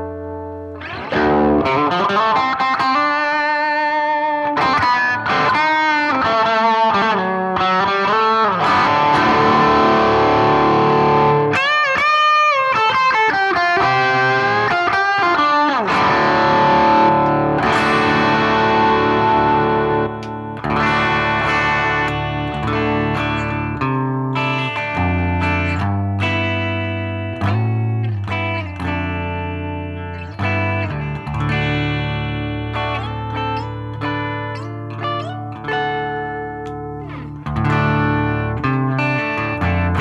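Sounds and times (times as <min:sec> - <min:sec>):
distorted electric guitar: 0:00.0 - 0:40.0.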